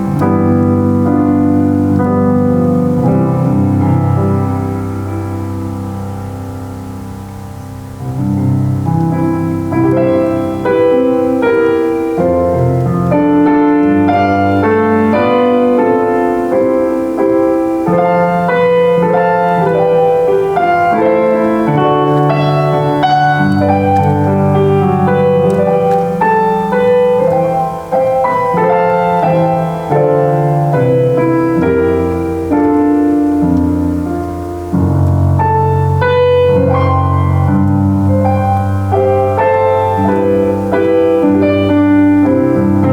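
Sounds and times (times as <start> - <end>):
solo piano: 0.0 - 42.9.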